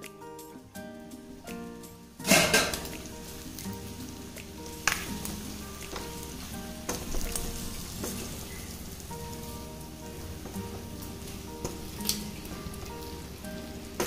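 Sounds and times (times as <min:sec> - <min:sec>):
meat sizzling in a pan: 0:00.8 - 0:14.0.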